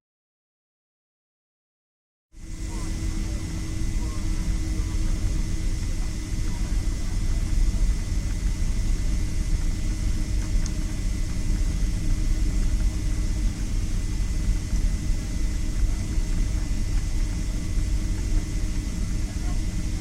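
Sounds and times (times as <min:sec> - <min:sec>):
aircraft engine drone: 0:02.4 - 0:20.0.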